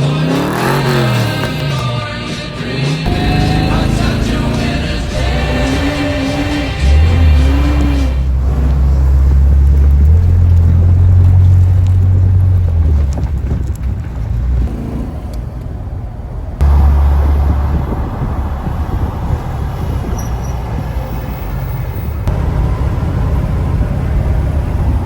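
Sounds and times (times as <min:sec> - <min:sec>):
car engine exhaust rumble: 0:00.0 - 0:25.0.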